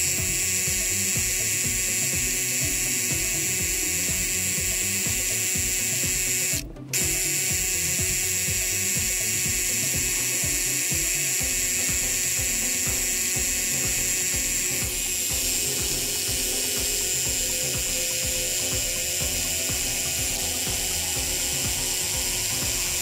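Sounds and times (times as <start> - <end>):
air compressor running: 0.0 - 23.0.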